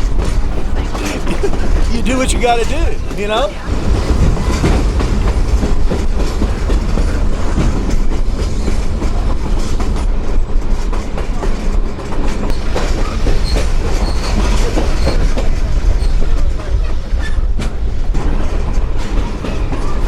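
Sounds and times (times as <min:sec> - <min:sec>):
train car rumbling: 0:00.0 - 0:20.0
wheels clacking over rails: 0:00.0 - 0:20.0.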